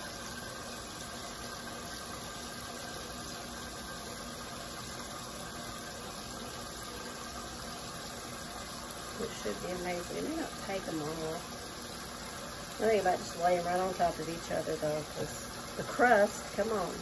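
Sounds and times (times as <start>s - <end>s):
steady background hum and hiss: 0.0s - 17.0s.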